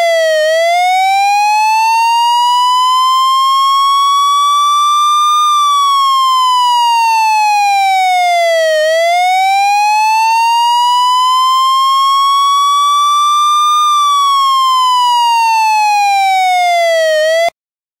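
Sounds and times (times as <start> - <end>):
fire engine siren wailing: 0.0 - 17.5.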